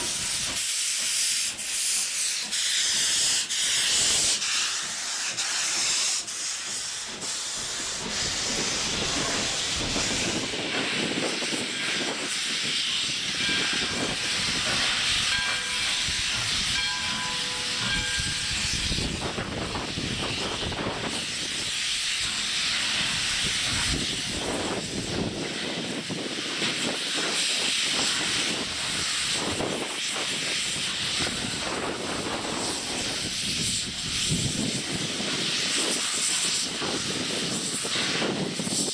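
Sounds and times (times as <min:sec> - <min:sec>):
steam locomotive hissing: 0:00.0 - 0:38.9
wind buffeting microphone: 0:07.1 - 0:38.9.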